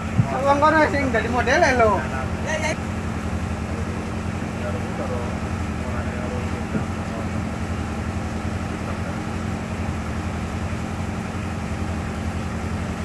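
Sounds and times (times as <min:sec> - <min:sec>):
ship engine low drone: 0:00.0 - 0:13.0.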